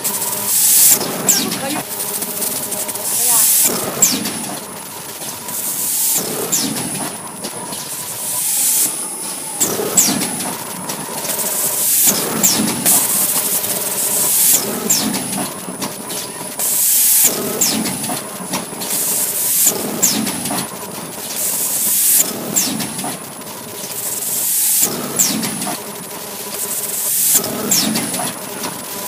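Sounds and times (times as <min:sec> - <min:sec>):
machine hissing: 0:00.0 - 0:29.0
steady machine noise: 0:00.0 - 0:29.0.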